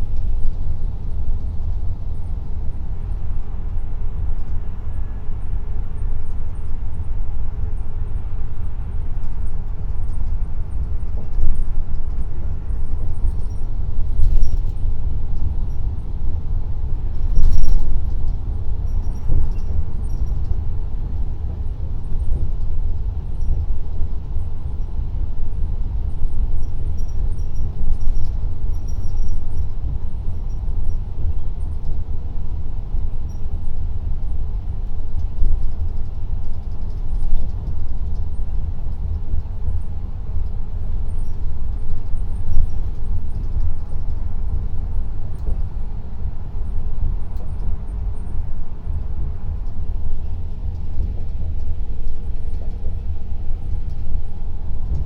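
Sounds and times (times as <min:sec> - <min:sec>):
vehicle rumble from inside cabin: 0:00.0 - 0:55.0.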